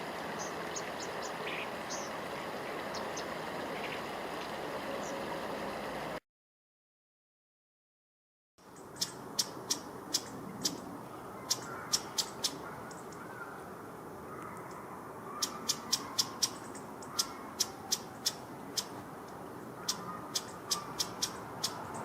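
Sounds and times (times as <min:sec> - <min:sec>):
songbird warbling: 0:00.0 - 0:05.3, 0:08.6 - 0:22.0
high ticking bird calls: 0:00.0 - 0:05.4, 0:08.6 - 0:13.7, 0:14.3 - 0:22.0.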